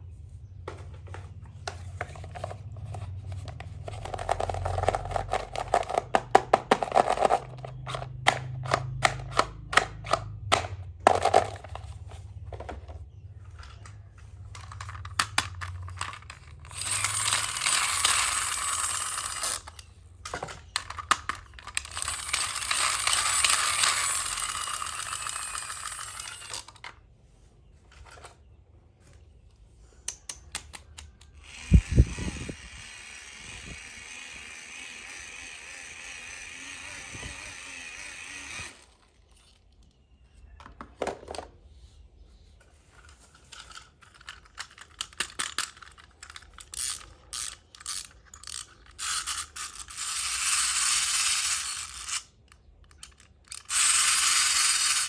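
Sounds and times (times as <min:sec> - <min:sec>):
plastic toy pieces clicking: 0:01.7 - 0:12.0, 0:13.5 - 0:27.0, 0:30.0 - 0:40.0, 0:43.0 - 0:55.0.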